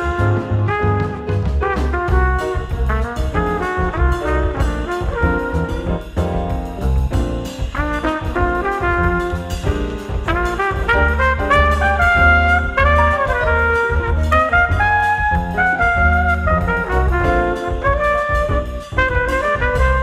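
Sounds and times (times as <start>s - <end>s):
jazzy music with bass and drums: 0.0s - 20.0s.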